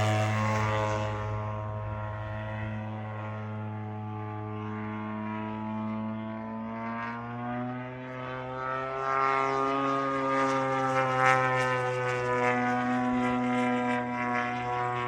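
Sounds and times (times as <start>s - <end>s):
propeller airplane engine: 0.0s - 15.0s.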